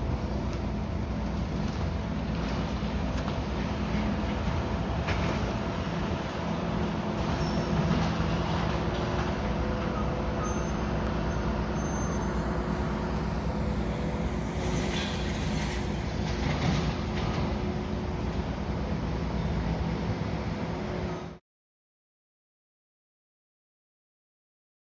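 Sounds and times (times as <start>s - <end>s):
diesel machinery running: 0.0s - 21.4s.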